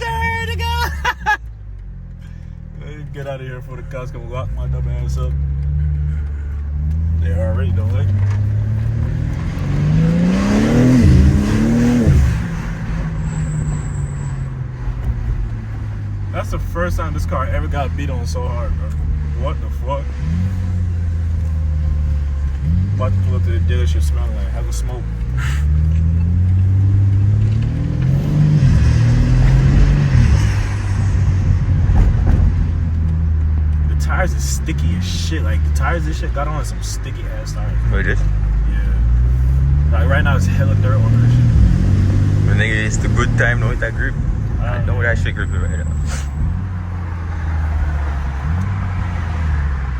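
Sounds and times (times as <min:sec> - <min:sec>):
car engine revving hard: 0:03.9 - 0:49.9.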